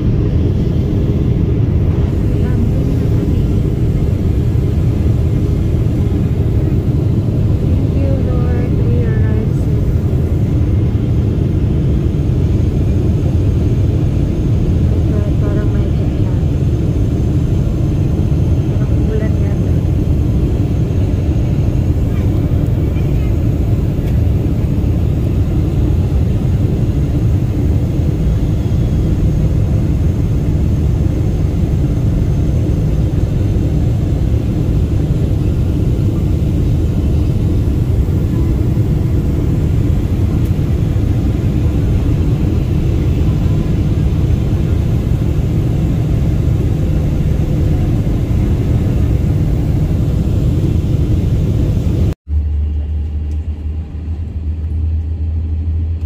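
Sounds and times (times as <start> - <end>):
jet cabin engine rumble: 0.0 - 56.0.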